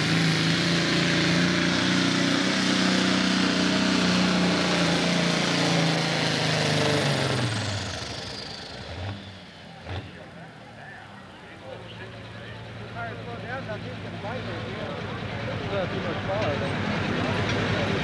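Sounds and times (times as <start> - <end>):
diesel engine droning under load: 0.0 - 18.0.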